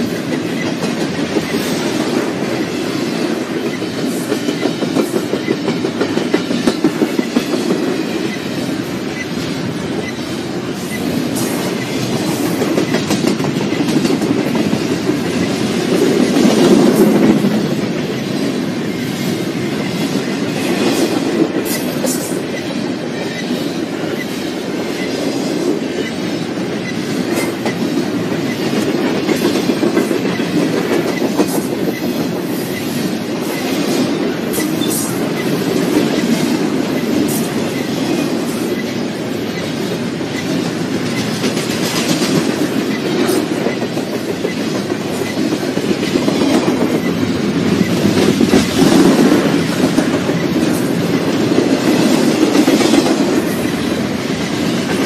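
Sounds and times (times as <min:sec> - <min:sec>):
wheels clicking over rail joints: 0:00.0 - 0:19.0, 0:24.8 - 0:55.0
train wheels rumbling on rail: 0:00.0 - 0:55.0.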